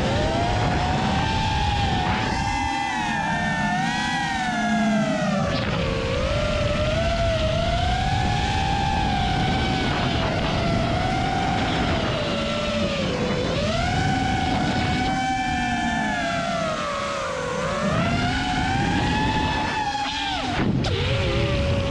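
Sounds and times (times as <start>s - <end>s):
drone motors whining: 0.0s - 21.9s
steady rushing noise: 0.0s - 21.9s.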